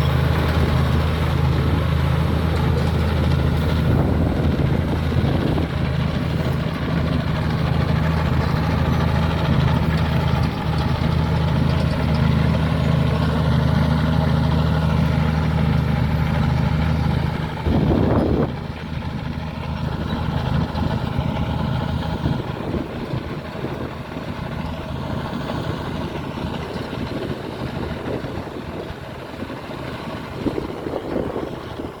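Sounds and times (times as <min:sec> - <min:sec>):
bulldozer diesel engine running: 0:00.0 - 0:32.0
rough engine noise: 0:00.0 - 0:32.0.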